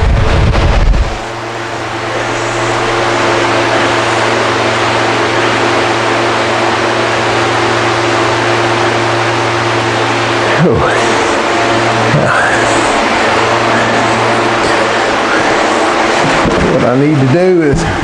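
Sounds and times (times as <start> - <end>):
motor-driven machine droning: 0.0 - 18.0.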